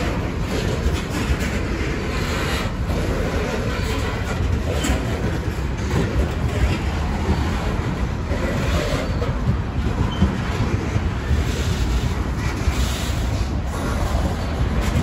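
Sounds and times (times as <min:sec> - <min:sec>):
rail joint clicks: 0:00.0 - 0:15.0
train wheels rumbling on rails: 0:00.0 - 0:15.0.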